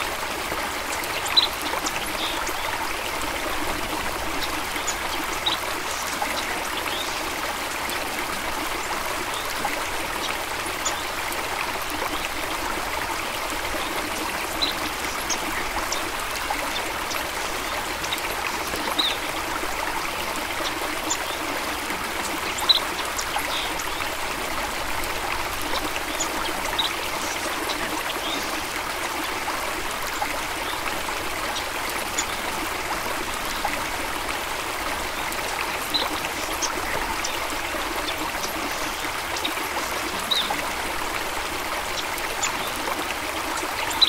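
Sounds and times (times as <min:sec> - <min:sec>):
stream flowing over stones: 0:00.0 - 0:44.0.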